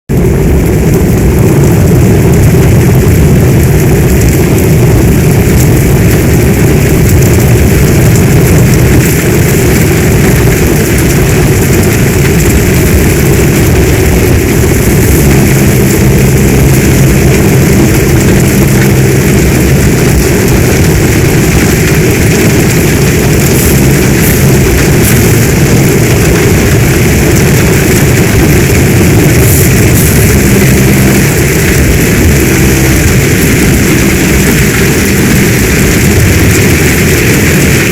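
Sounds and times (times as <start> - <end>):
deep continuous rumble: 0.0 - 37.9
heavy storm rain: 0.1 - 37.9
low droning hum: 0.1 - 37.9.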